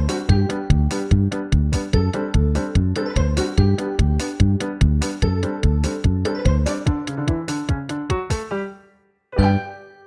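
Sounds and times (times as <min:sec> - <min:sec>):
bouncy background music: 0:00.0 - 0:10.0.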